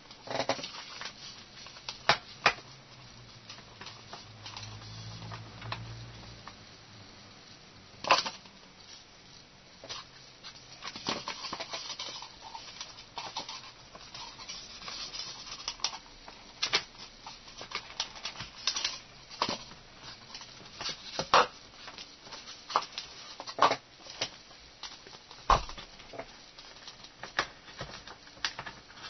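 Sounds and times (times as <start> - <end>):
hands handling wires and plastic parts: 0.0 - 6.6, 8.0 - 9.1, 9.8 - 29.0.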